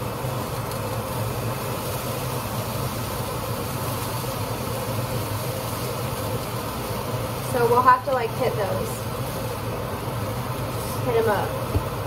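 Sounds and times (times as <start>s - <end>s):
range hood fan humming: 0.0s - 12.0s.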